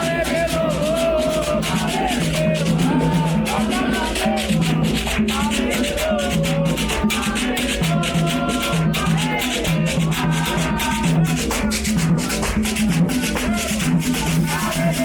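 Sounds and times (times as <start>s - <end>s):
shaker beat: 0.0s - 15.0s
voices singing: 0.0s - 15.0s.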